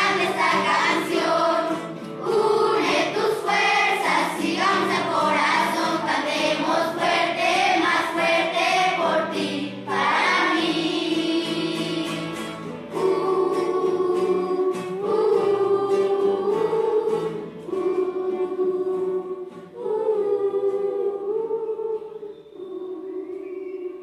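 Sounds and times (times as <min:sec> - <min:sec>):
children's choir singing held notes: 0:00.0 - 0:24.0.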